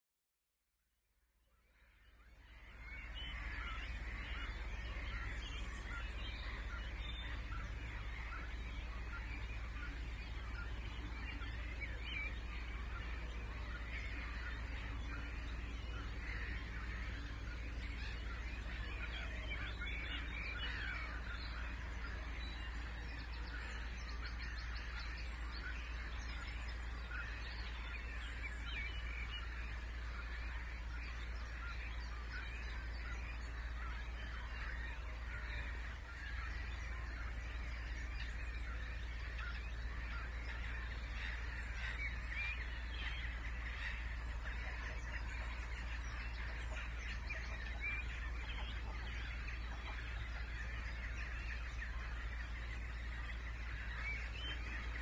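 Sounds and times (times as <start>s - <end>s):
songbird chirps: 1.4s - 55.0s
flock of birds calling: 1.8s - 55.0s.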